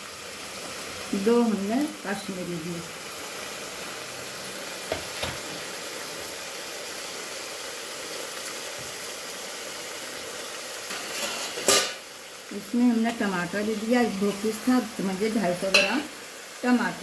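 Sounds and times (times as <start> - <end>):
burst of sizzle from tomatoes: 0.0 - 17.0
meat sizzling in hot oil: 0.0 - 17.0.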